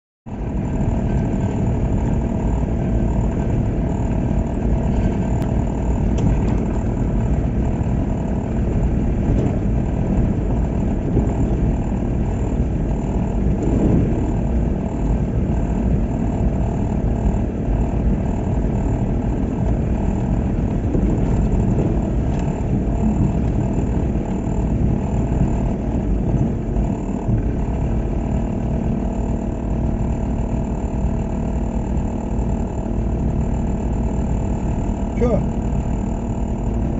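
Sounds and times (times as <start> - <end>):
car engine: 0.3 - 36.9
road tyre noise: 0.3 - 36.9.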